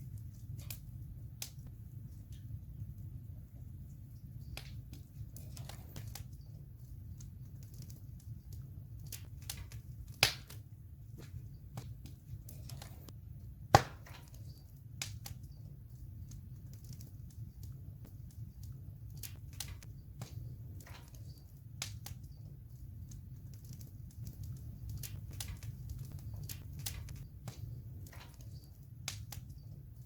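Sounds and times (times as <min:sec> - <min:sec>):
campfire crackling and popping: 0:00.0 - 0:30.0
low rumble of fire: 0:00.0 - 0:30.0.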